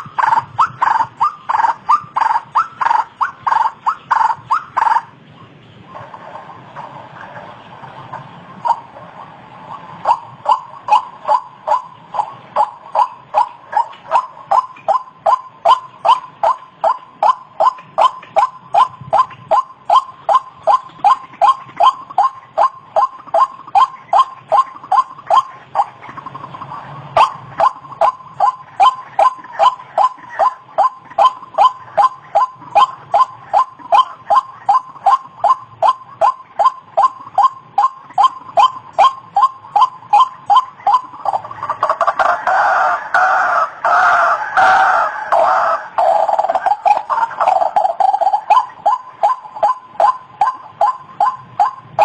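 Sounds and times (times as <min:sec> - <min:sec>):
waterhen calling: 0:00.0 - 0:52.0.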